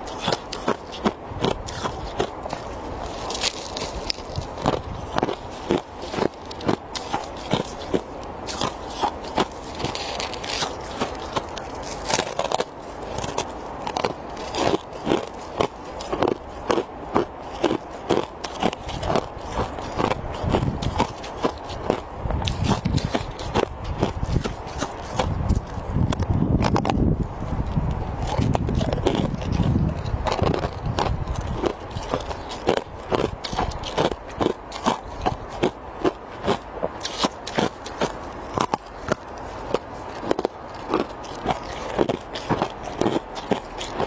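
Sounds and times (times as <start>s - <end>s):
crunching of snow and ice: 0.0s - 44.0s.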